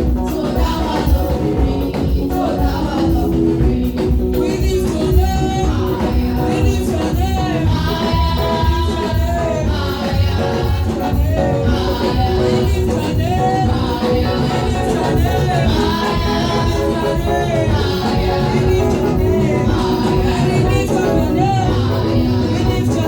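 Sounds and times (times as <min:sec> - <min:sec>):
person singing: 0:00.0 - 0:23.0
upbeat gospel dance music: 0:00.0 - 0:23.0.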